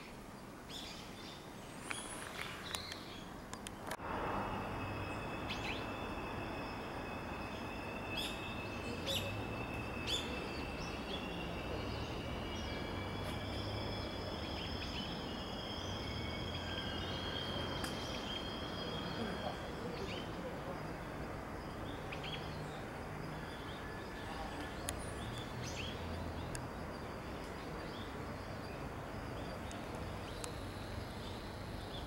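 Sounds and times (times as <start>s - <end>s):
birds chirping: 4.8s - 32.0s.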